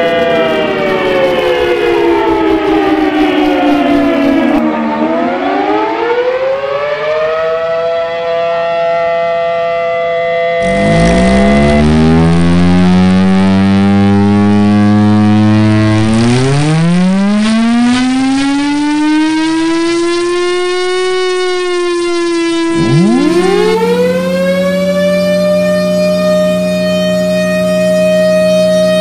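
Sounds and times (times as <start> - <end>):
loud siren: 0.0 - 29.0.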